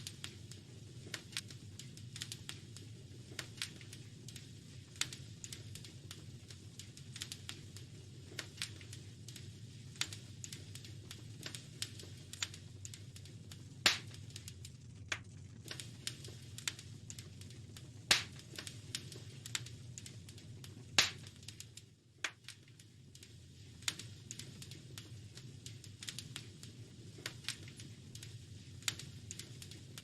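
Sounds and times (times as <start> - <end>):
loud fire pops: 0.0 - 30.0
wood fire crackling: 0.0 - 30.0.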